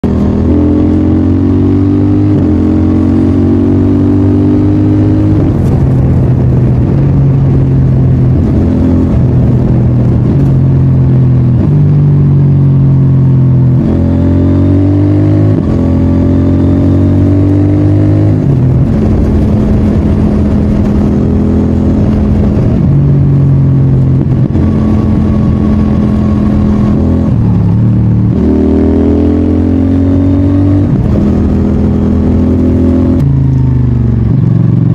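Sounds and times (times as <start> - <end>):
motorcycle engine shifting gears: 0.0 - 34.9.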